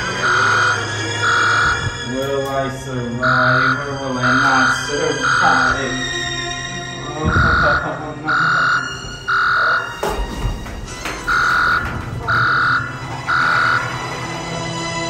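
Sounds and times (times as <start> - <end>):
low steady drone: 0.0 - 10.4, 11.1 - 15.0
electronic alarm beeping: 0.0 - 10.5, 11.1 - 14.5.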